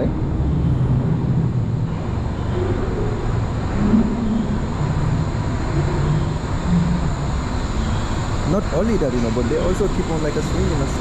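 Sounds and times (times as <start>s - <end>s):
suspension railway train rumble: 0.0s - 11.0s.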